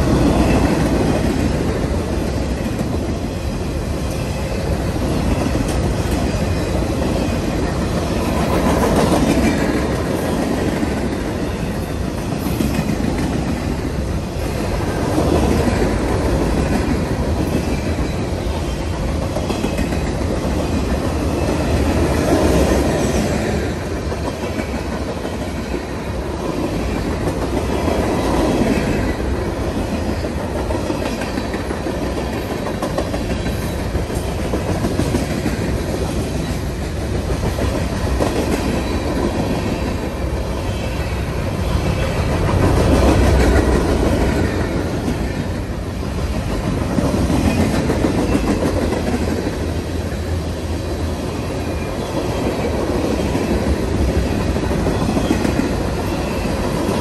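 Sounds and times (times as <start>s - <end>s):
train wheels rattling on rails: 0.0s - 57.0s.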